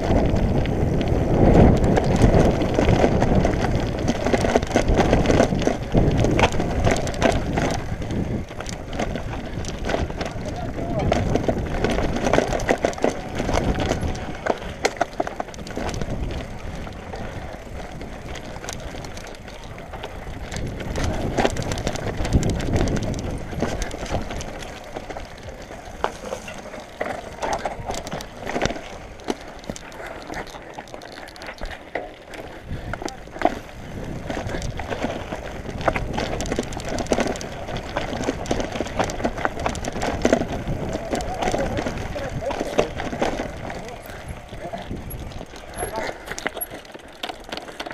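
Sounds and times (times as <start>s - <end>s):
mountain bike knocks and clatter: 0.0s - 29.8s, 30.4s - 47.9s
wind on microphone: 0.0s - 46.8s
low rumble of riding: 0.0s - 47.9s
tyres crunching on gravel: 0.0s - 47.9s.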